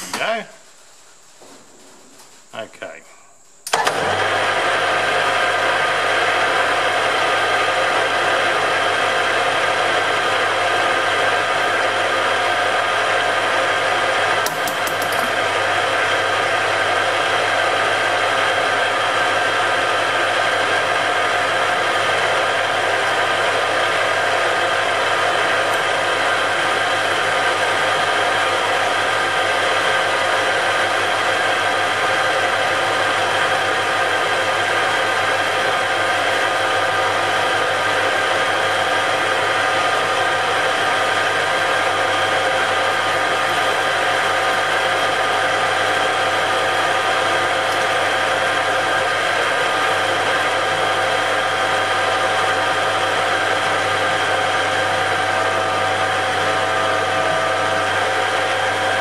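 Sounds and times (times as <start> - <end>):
metal lathe whirring hum: 3.6 - 59.0.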